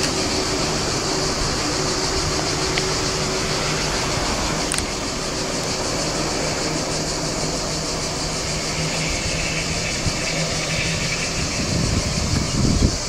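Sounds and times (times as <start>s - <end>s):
high-speed train rumble and hiss: 0.0s - 13.0s.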